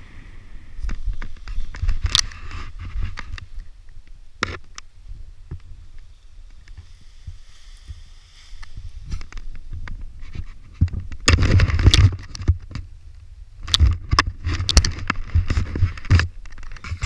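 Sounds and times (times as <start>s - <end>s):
rustling and scraping: 0.0s - 12.9s, 13.6s - 17.0s
wind buffeting microphone: 0.0s - 17.0s.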